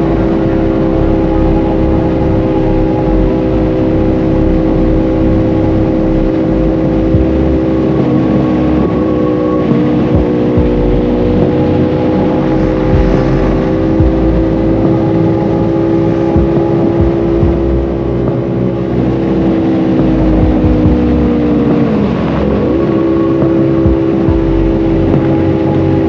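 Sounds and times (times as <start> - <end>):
motorcycle engine cruising: 0.0 - 26.0
wind rumble: 0.0 - 26.0.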